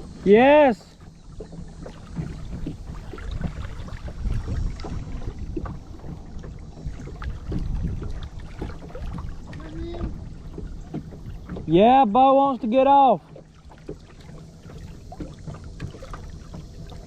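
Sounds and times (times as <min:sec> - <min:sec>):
water and wind rumbling on hull: 0:00.0 - 0:17.0.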